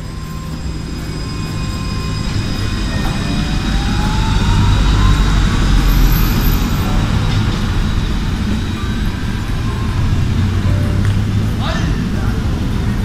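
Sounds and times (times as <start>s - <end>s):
heavy low rumble: 0.0s - 13.0s
tram motor whine: 0.0s - 13.0s.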